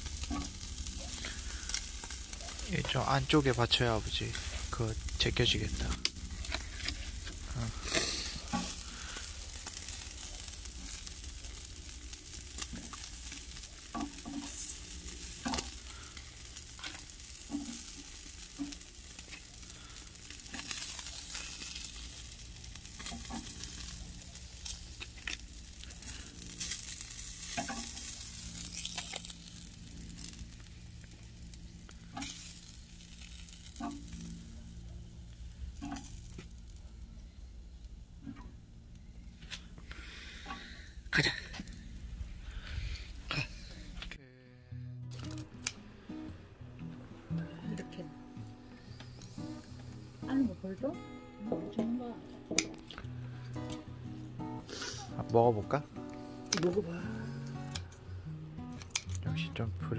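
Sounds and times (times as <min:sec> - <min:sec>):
fish sizzling on a grill: 0:00.0 - 0:44.2, 0:45.1 - 0:46.3, 0:47.6 - 0:47.8, 0:48.6 - 0:51.0, 0:51.6 - 0:59.1.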